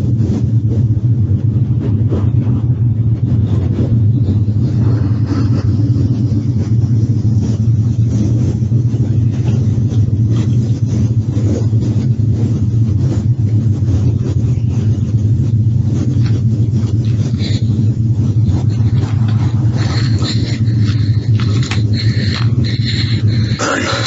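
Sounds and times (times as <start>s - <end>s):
low rumbling drone with hiss: 0.0s - 24.0s.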